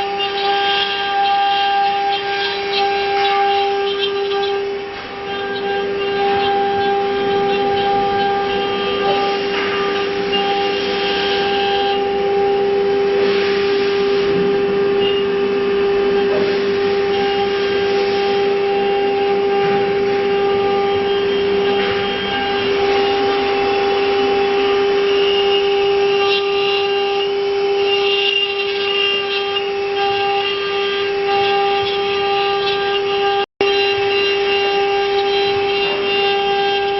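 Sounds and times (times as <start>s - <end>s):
cnc router high whine: 0.0s - 36.9s
rough machining noise: 0.0s - 36.9s.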